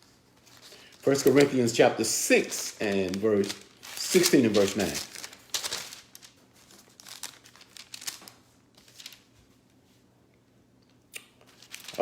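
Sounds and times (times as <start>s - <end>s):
thin pages being turned: 0.0s - 9.4s, 11.5s - 12.0s.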